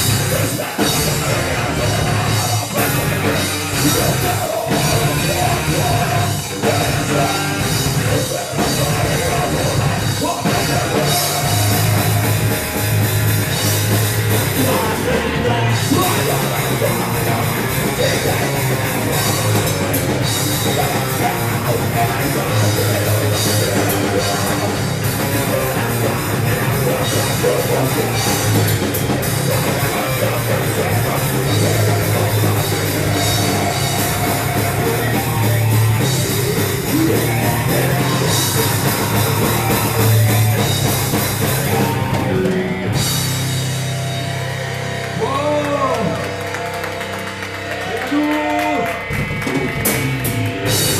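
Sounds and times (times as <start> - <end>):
bass guitar: 0.0 - 50.9
distorted guitars: 0.0 - 50.9
pounding drum kit: 0.0 - 50.9.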